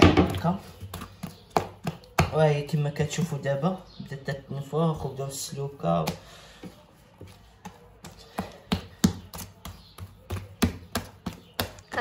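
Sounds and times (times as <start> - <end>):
hand slapping wet dough: 0.0 - 4.4, 5.7 - 12.0.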